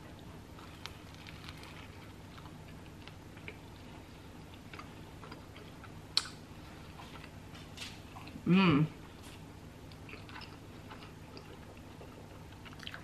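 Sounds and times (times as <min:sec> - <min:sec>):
person chewing: 0:00.1 - 0:07.4, 0:09.2 - 0:13.0.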